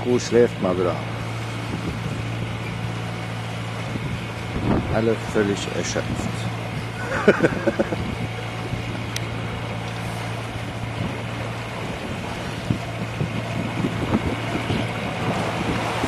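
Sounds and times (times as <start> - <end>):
boat engine drone: 0.0 - 16.0
water rushing along hull: 0.0 - 16.0
wind buffeting microphone: 0.0 - 16.0.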